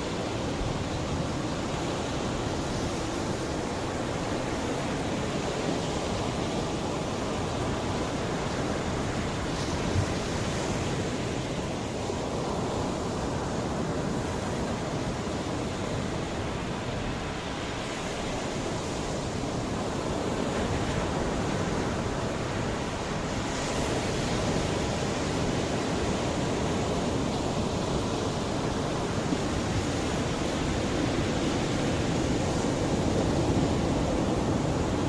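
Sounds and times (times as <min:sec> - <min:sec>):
sea waves washing onto shore: 0:00.0 - 0:35.0.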